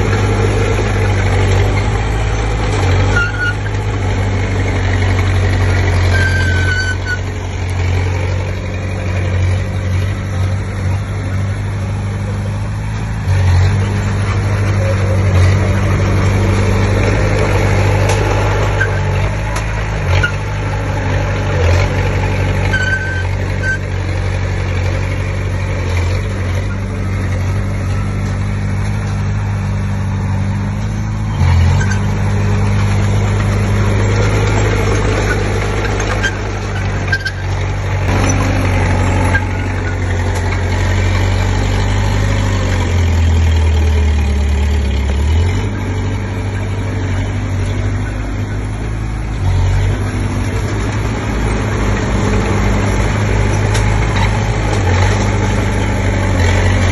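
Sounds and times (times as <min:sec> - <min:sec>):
bulldozer diesel engine under load: 0:00.0 - 0:56.9.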